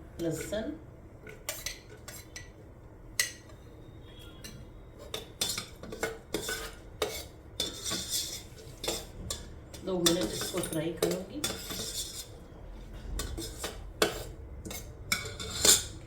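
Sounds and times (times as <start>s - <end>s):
spoon scraping and clinking pot: 1.2s - 2.6s, 3.2s - 3.7s, 4.4s - 16.0s.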